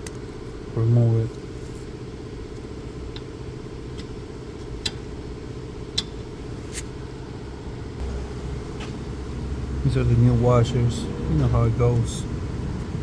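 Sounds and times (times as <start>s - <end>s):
low machine hum: 0.4s - 13.0s.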